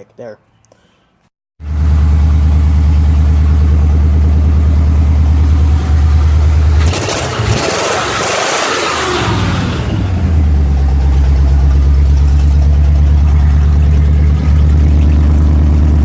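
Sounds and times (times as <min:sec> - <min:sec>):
truck engine rumbling and revving: 0:01.6 - 0:16.0.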